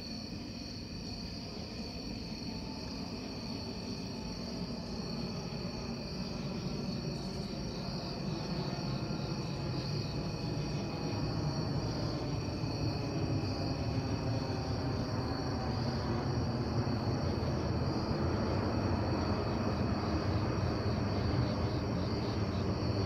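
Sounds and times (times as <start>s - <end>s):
night insects chirping: 0.0s - 23.0s
jet airliner rumbling overhead: 1.3s - 23.0s.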